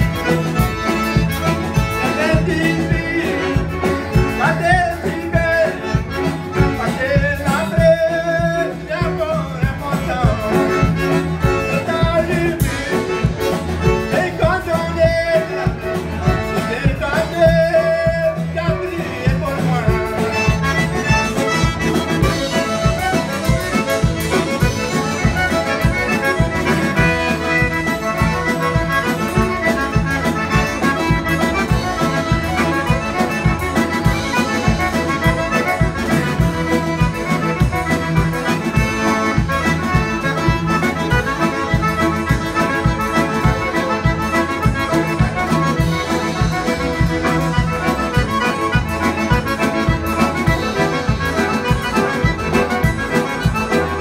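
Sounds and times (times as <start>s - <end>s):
button accordion: 0.0s - 54.0s
drums beating: 0.0s - 54.0s
fiddles: 0.0s - 54.0s.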